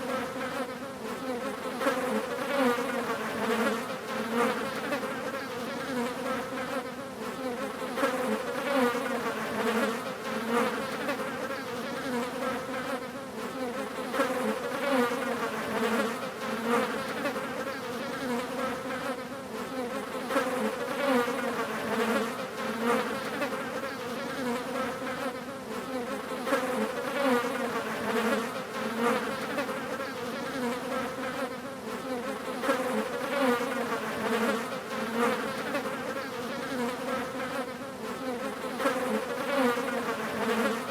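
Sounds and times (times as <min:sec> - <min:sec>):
flies buzzing: 0:00.0 - 0:40.9.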